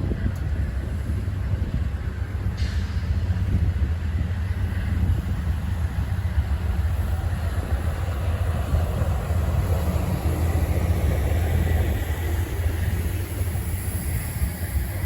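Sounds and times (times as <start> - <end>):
diesel locomotive rumble: 0.0 - 15.0.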